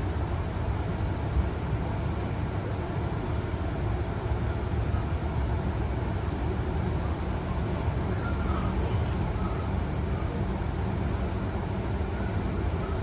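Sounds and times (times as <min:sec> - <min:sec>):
train carriage rumbling at speed: 0:00.0 - 0:13.0.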